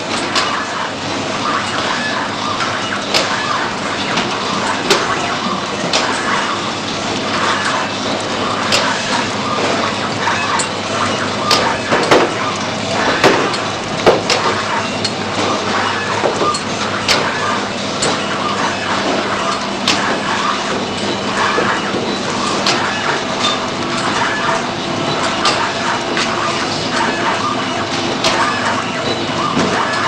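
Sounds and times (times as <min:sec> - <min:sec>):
sharp mechanical clicks and knocks: 0:00.0 - 0:00.9, 0:01.6 - 0:06.4, 0:07.1 - 0:30.0
packing machine hum and clatter: 0:00.0 - 0:30.0.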